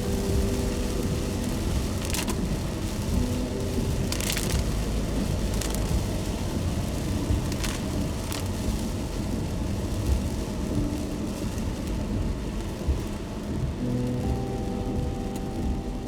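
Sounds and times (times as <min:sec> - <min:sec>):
rain hiss: 0:00.0 - 0:16.0
road and tyre rumble: 0:00.0 - 0:16.0.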